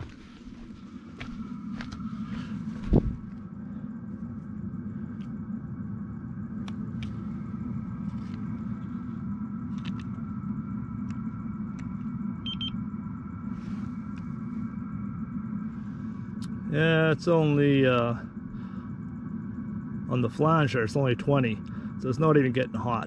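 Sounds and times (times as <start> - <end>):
heater running with low rumble: 0.0 - 23.0.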